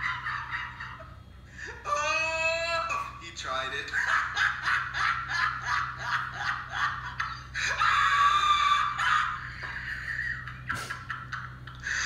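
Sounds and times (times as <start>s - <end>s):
man laughing hard: 0.0s - 3.2s, 3.8s - 12.0s.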